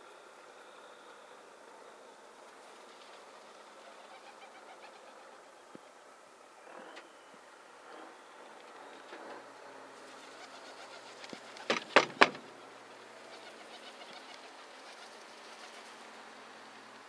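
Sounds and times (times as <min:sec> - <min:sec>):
bird calls: 0:00.6 - 0:15.9.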